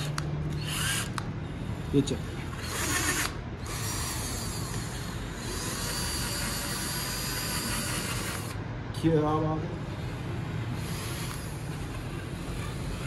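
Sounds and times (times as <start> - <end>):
drill motor whine: 0.0 - 8.6, 9.8 - 13.0.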